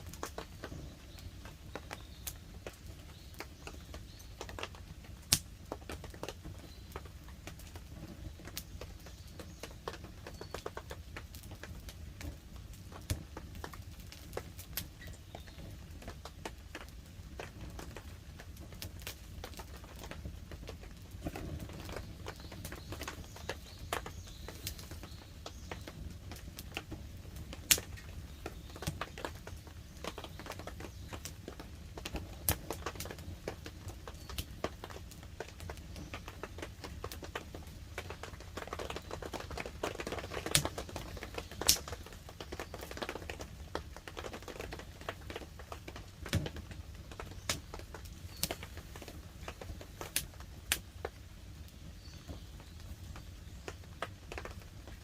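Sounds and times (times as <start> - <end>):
campfire crackling and popping: 0.0 - 55.0
rain pattering on a tarp: 0.0 - 55.0.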